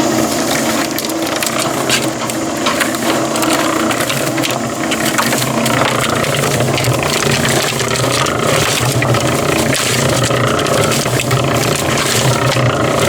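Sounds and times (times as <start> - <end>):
concrete mixer motor hum: 0.0 - 13.0
sand rattling in drum: 0.0 - 13.0.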